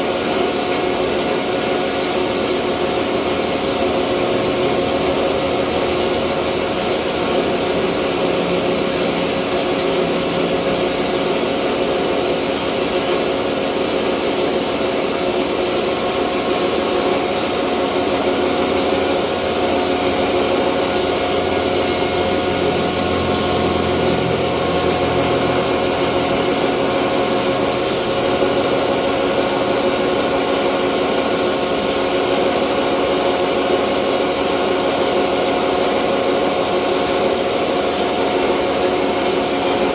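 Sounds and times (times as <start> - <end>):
rice mill machine drone: 0.0 - 39.9.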